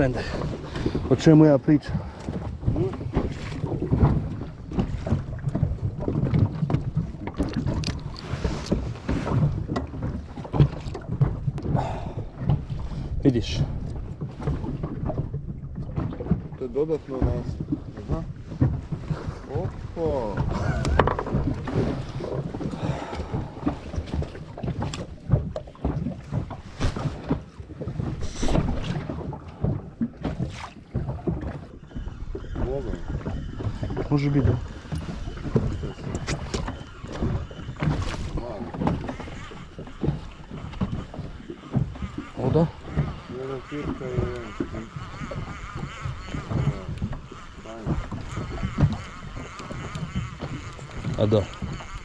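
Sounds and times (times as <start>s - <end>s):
water against boat hull: 0.0s - 52.0s
wind buffeting microphone: 0.0s - 52.0s.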